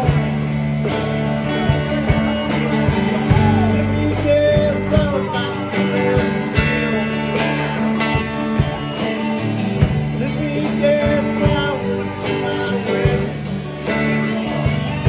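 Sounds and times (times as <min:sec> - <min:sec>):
drums with kick hits: 0:00.0 - 0:15.0
electric guitar bending melody: 0:00.0 - 0:15.0
strummed acoustic guitar: 0:00.0 - 0:15.0.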